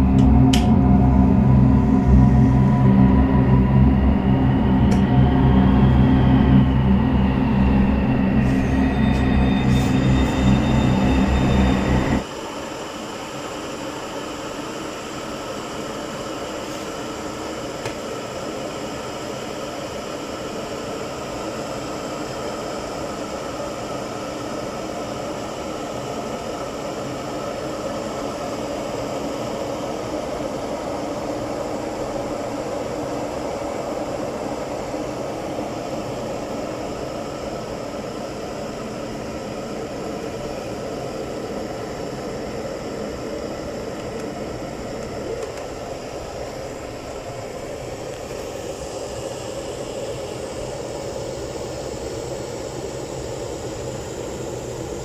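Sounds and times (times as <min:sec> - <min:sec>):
electric heater fan whirring: 0:00.0 - 0:55.0.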